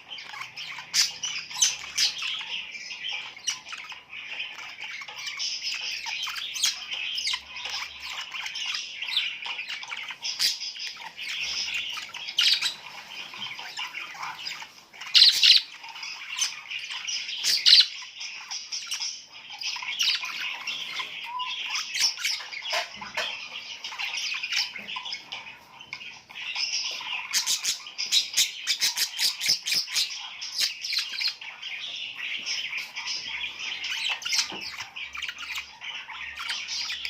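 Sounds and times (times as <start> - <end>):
small birds chirping and squawking: 0.0 - 37.0.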